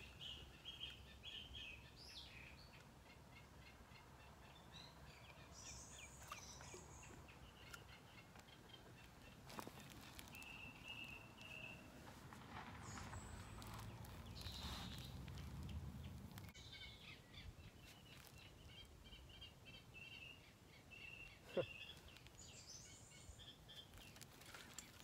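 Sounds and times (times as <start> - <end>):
faint chirping birdsong: 0.0 - 25.0
quiet riverside ambience: 0.0 - 25.0.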